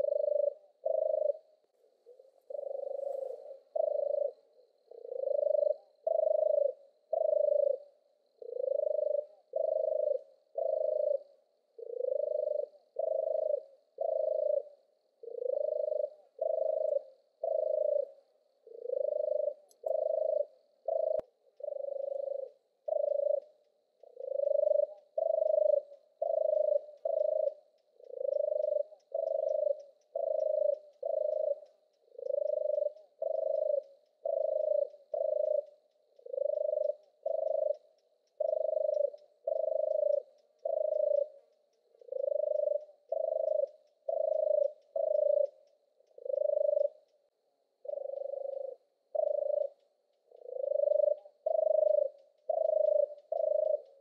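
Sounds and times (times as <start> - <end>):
dove purring song: 0.0 - 54.0.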